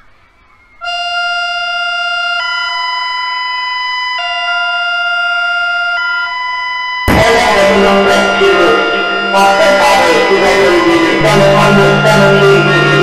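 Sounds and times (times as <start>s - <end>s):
two-tone electronic alert tone: 0.8s - 13.0s.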